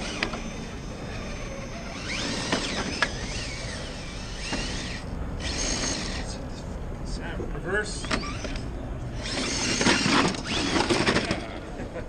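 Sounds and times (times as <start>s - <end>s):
electric motor whining: 0.0s - 6.5s, 8.1s - 11.4s.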